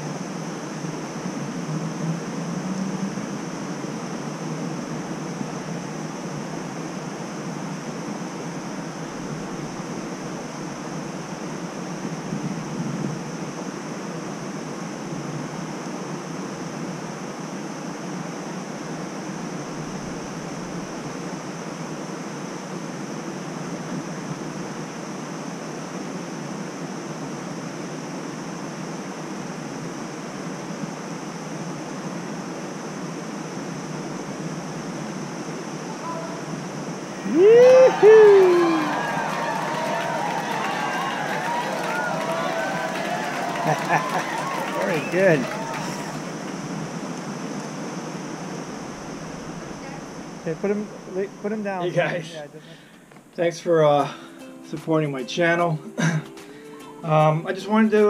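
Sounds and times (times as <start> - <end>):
faint high hiss: 0.0 - 58.0
outdoor background rush: 0.0 - 58.0.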